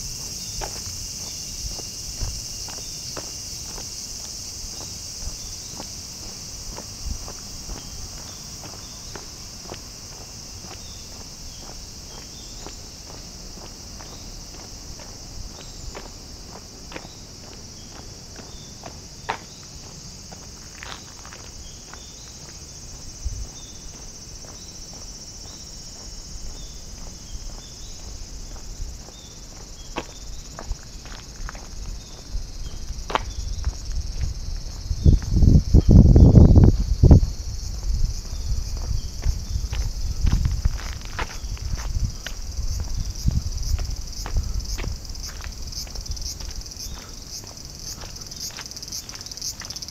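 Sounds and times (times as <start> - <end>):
cicadas chorus: 0.0 - 49.9.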